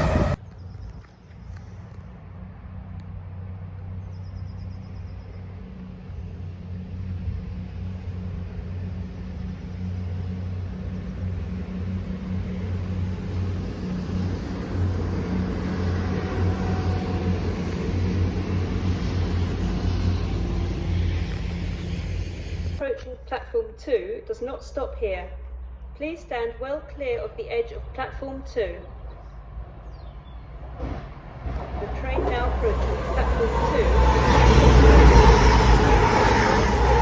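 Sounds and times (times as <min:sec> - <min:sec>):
train passing rumble: 0:00.0 - 0:00.9, 0:01.6 - 0:22.8, 0:28.9 - 0:37.0.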